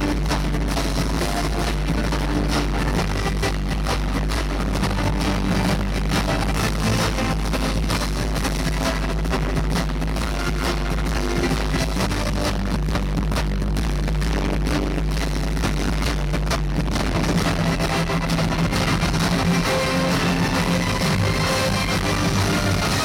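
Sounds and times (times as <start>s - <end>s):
deep bass: 0.0s - 23.0s.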